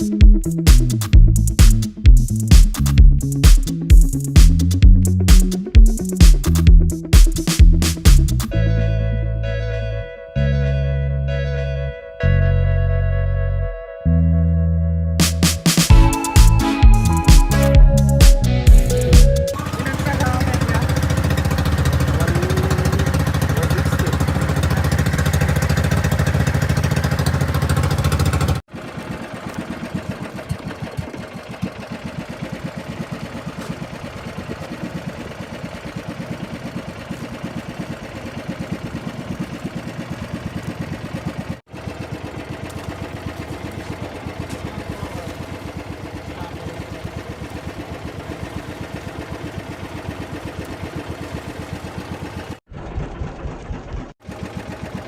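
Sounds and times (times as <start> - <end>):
boat engine chugging: 0.0 - 9.2, 15.7 - 55.0.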